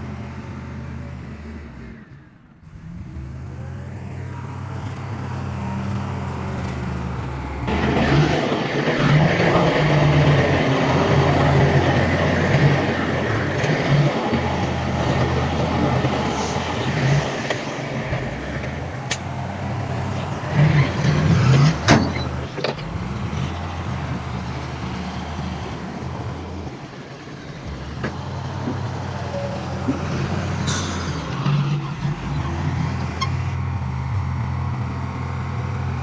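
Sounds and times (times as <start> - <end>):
diesel machinery engine drone: 0.0 - 36.0
broad rush of mechanical noise: 7.1 - 36.0.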